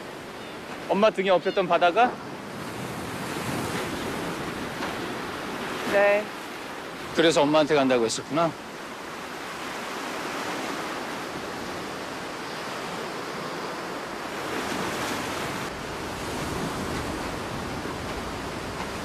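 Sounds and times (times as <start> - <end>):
small waves washing onto beach: 0.0 - 19.0.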